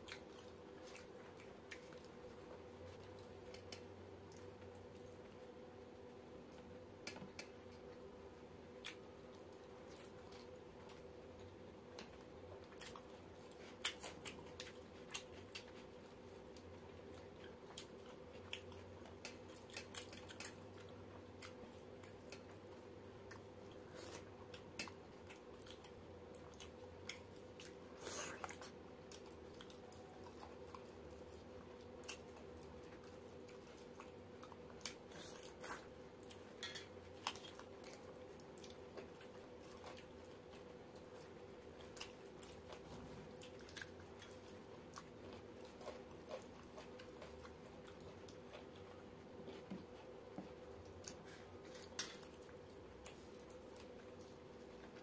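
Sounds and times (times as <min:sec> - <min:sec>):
faint chewing: 0:00.0 - 0:55.0
faint steady hum: 0:00.0 - 0:55.0.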